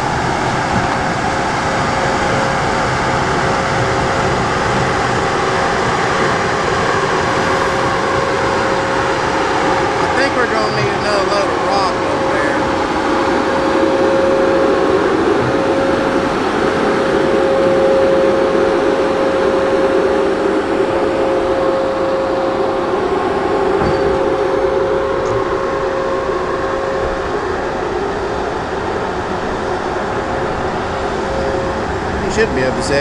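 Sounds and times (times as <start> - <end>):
heavy diesel machine rumbling: 0.0 - 33.0
steady whine: 0.0 - 33.0.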